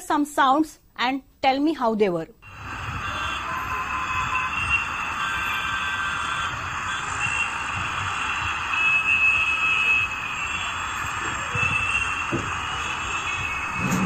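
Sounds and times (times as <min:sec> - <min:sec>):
road traffic din: 0:02.4 - 0:14.0
vehicle horns honking: 0:02.4 - 0:14.0.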